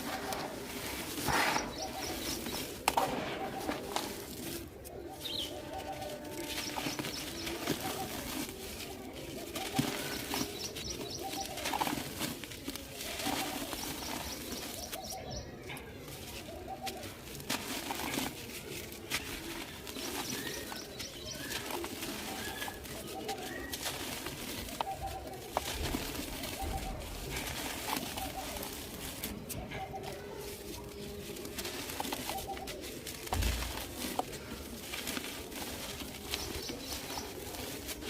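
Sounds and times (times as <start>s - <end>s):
bird cooing: 0.0s - 38.0s
dry clay crumbling and crunching: 0.0s - 38.0s.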